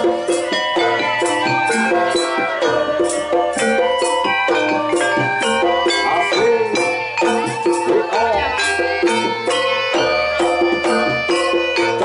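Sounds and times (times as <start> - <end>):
gamelan ensemble with drums: 0.0 - 12.0.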